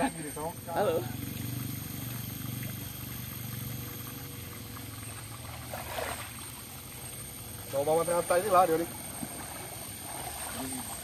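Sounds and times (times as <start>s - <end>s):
low mechanical hum: 0.0s - 11.0s
water splashing into a pond: 0.0s - 11.0s.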